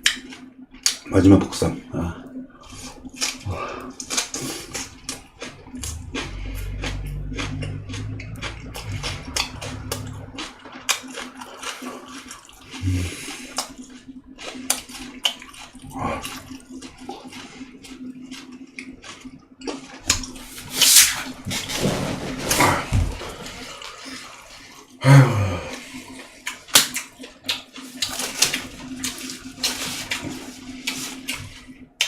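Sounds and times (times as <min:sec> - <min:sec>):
wet chewing and lip-smacking: 0:00.0 - 0:01.1, 0:02.6 - 0:21.4, 0:25.7 - 0:32.0.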